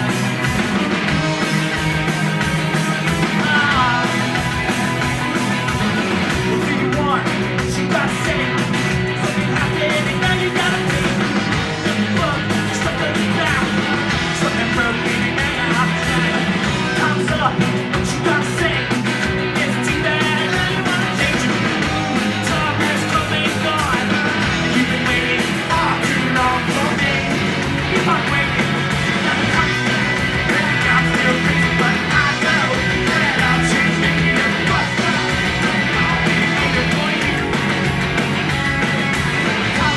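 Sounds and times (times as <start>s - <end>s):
punk rock band with singing: 0.0s - 39.9s.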